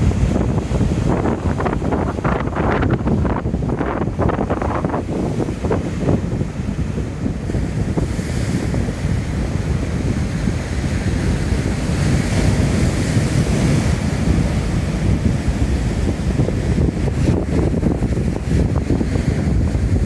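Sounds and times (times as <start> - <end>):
surf breaking on shore: 0.0 - 20.0
wind buffeting microphone: 0.0 - 20.0.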